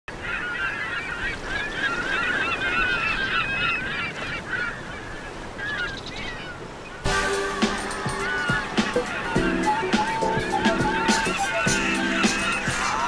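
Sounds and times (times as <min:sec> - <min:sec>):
birds honking: 0:00.1 - 0:13.0.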